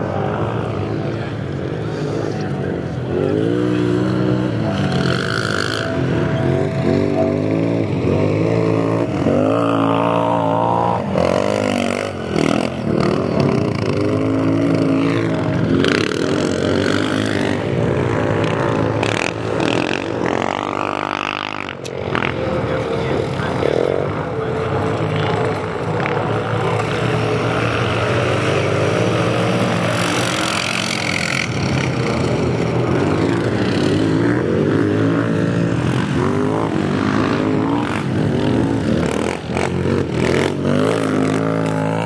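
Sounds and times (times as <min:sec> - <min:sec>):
atv engines revving: 0:00.0 - 0:42.0.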